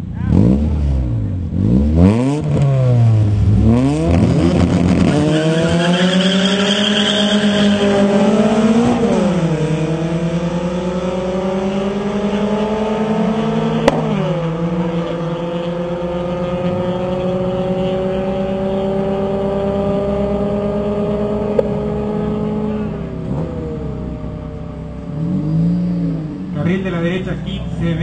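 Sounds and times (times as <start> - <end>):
race car engines accelerating: 0.0 - 28.0.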